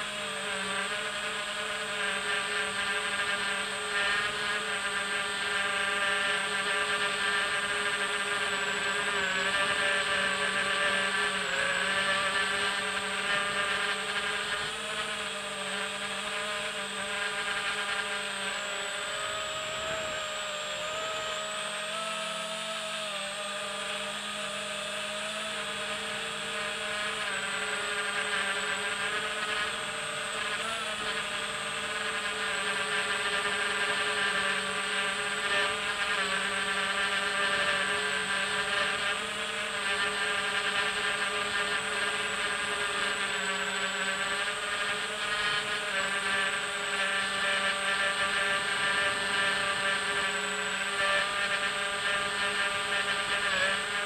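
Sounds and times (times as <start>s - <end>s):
drone motors buzzing whine: 0.0s - 54.0s.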